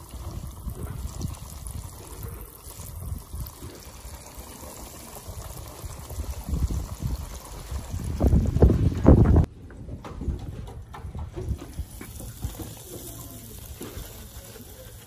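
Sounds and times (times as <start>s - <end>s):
hot oil bubbling and sizzling: 0.0s - 9.5s, 11.5s - 15.0s.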